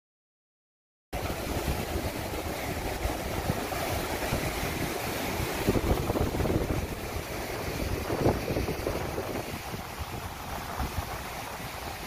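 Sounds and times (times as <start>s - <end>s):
surf breaking and washing in: 1.2s - 12.0s
wind buffeting microphone: 1.2s - 12.0s.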